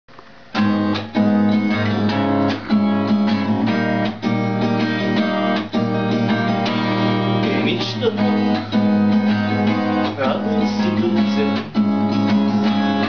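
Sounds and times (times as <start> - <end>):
acoustic guitar strumming chords: 0.4 - 13.0.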